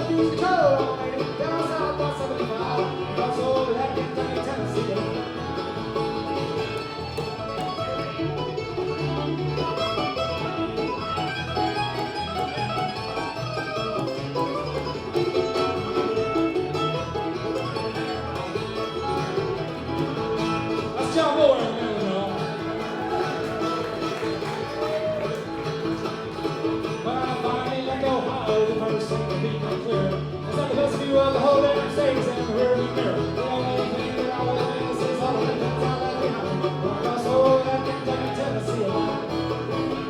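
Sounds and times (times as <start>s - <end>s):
bluegrass band playing: 0.0s - 40.0s.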